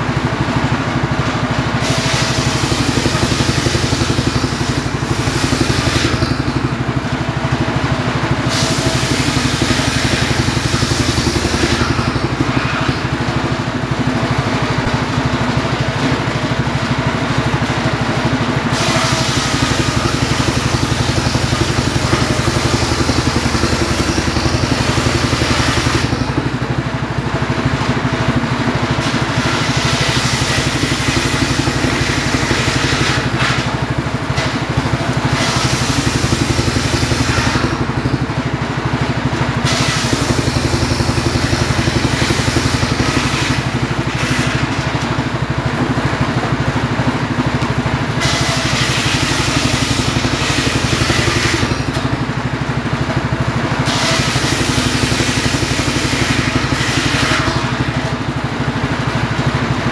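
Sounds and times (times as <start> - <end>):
saw blade cutting logs: 1.3 - 52.4, 53.6 - 58.4
circular saw motor drone: 1.4 - 58.4.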